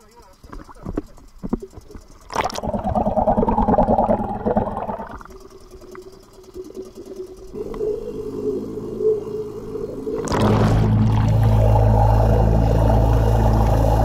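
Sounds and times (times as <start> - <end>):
outboard engine heard underwater: 0.0 - 14.0.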